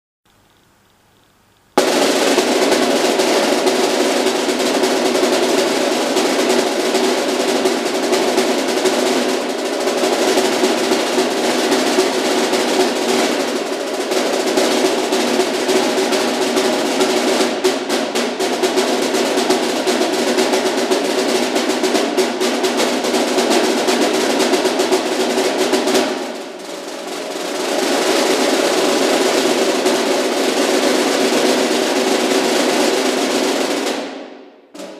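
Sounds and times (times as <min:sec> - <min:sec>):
snare drum rolls: 0:01.7 - 0:34.9.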